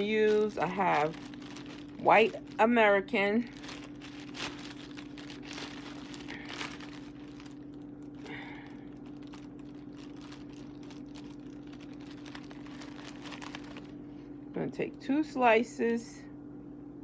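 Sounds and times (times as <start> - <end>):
plastic packaging crinkling: 0.0 - 14.1
low hum: 0.0 - 15.4.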